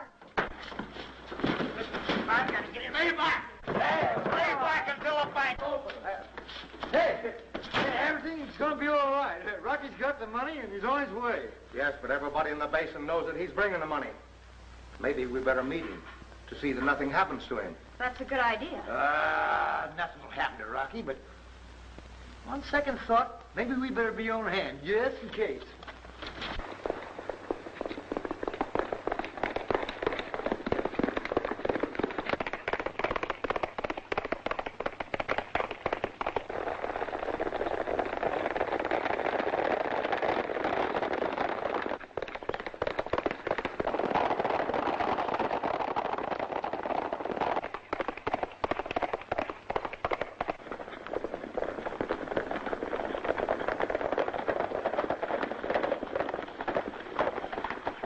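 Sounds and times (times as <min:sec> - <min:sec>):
horses galloping hoofbeats: 0:00.0 - 0:14.3, 0:15.0 - 0:21.2, 0:22.4 - 0:58.0
old film soundtrack crackle: 0:00.0 - 0:58.0.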